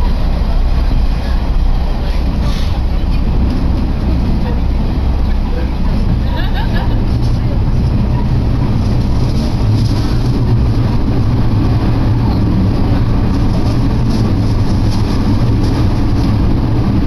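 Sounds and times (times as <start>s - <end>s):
diesel railcar rumbling: 0.0s - 17.0s.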